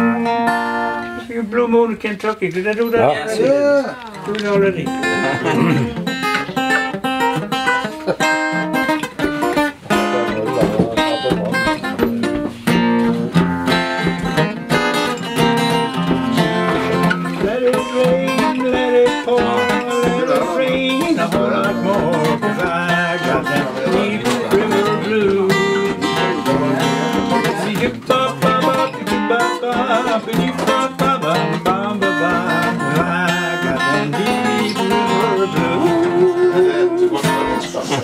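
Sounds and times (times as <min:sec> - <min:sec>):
acoustic guitar picking and strumming: 0:00.0 - 0:38.0.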